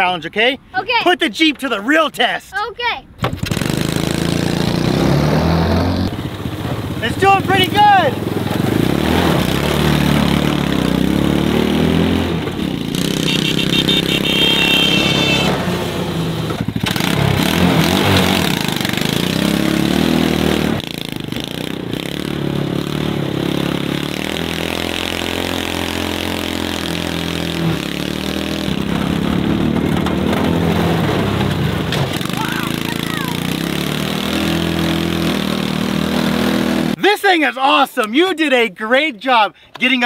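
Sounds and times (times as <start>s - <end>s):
small engine revving: 3.3s - 37.0s.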